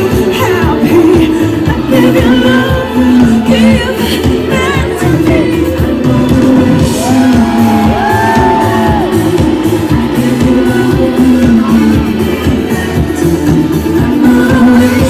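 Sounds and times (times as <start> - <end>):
dance-pop music with pulsing beat: 0.0 - 15.0.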